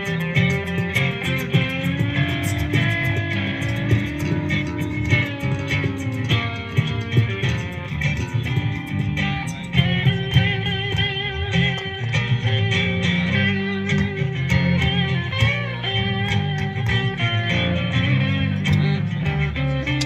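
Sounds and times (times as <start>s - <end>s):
bass guitar: 0.0s - 20.0s
electric guitar: 0.0s - 20.0s
steady beat: 0.0s - 20.0s.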